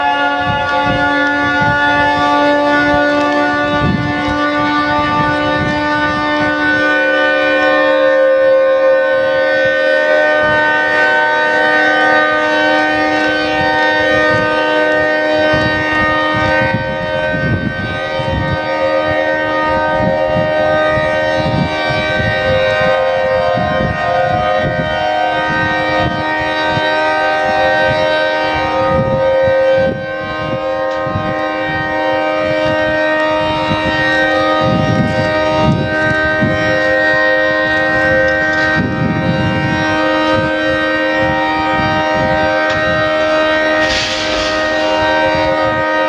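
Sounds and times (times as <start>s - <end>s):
outdoor warning siren: 0.0s - 46.0s.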